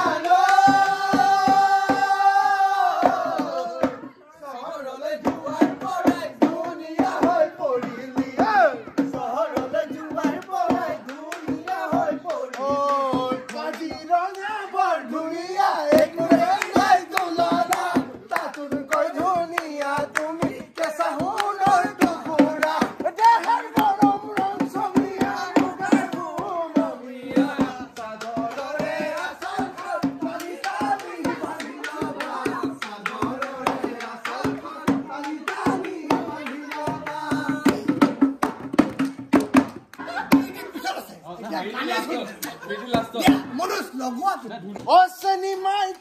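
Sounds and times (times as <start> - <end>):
rhythmic hand-clapping: 0.0 - 4.2, 5.0 - 40.9, 42.3 - 43.5, 44.7 - 46.0
men singing together: 0.0 - 38.4.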